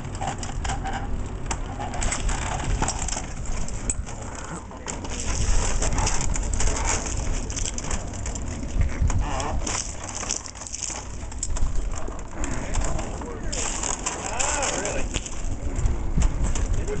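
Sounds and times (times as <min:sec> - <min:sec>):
low rumble: 0:00.0 - 0:17.0
wood creaking: 0:00.0 - 0:17.0
wooden legs clattering and clicking: 0:00.0 - 0:17.0.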